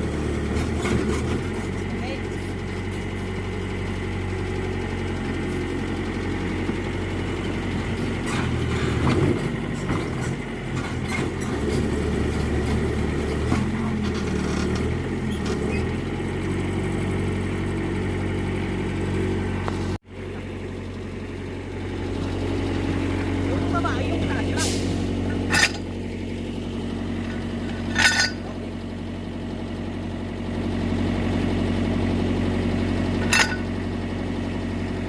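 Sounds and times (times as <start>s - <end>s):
backhoe diesel engine running: 0.0s - 35.0s.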